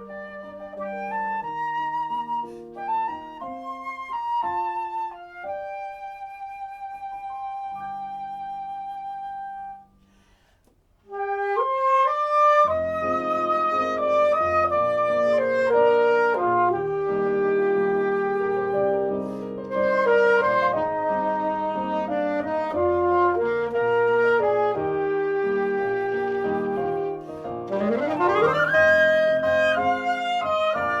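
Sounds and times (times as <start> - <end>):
flute and saxophone duet: 0.0 - 9.9, 11.1 - 31.0
recorded musical accompaniment: 0.0 - 31.0.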